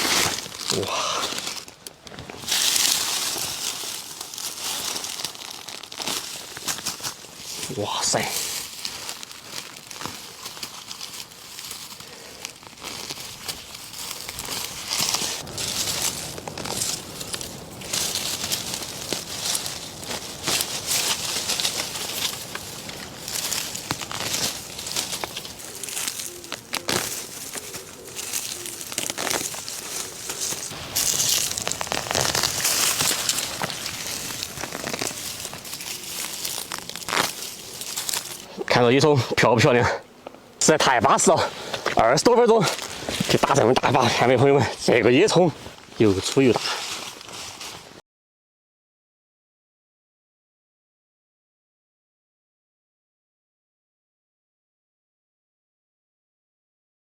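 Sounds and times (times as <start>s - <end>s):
dry leaves rustling and crackling: 0.0s - 48.0s.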